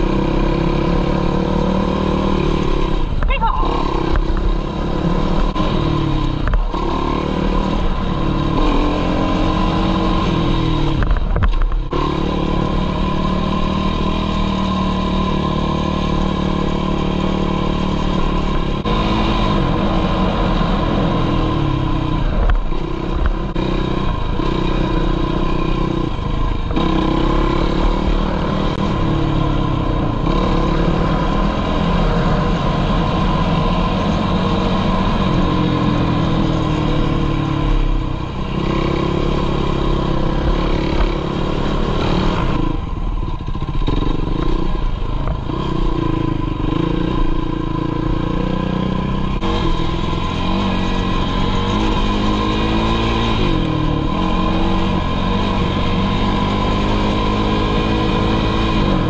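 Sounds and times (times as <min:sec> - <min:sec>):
quad engine revving: 0:00.0 - 0:11.2, 0:11.8 - 0:59.0.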